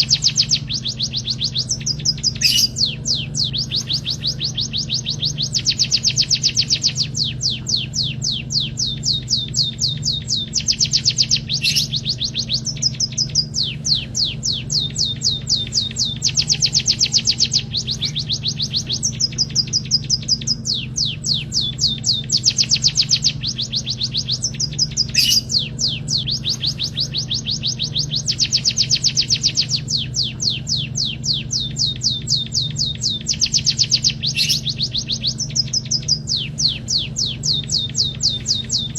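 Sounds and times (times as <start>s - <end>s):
bird singing fast trills: 0.0s - 38.9s
steady low hum: 0.0s - 38.9s.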